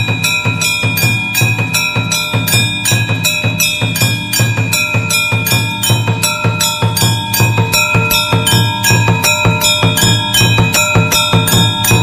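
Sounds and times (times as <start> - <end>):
high ringing tone: 0.0 - 12.0
music with fast thumping beat: 0.0 - 12.0.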